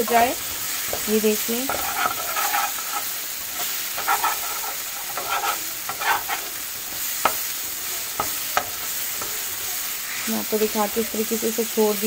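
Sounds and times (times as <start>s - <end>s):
paste sizzling in a pan: 0.0s - 12.0s
metal spoon scraping a pan: 0.1s - 11.2s.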